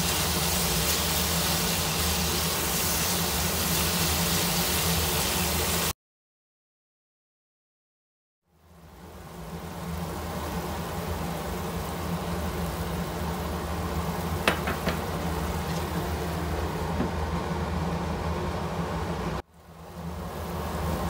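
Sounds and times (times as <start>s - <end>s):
pan cooking hum and hiss: 0.0s - 6.0s, 8.4s - 21.0s.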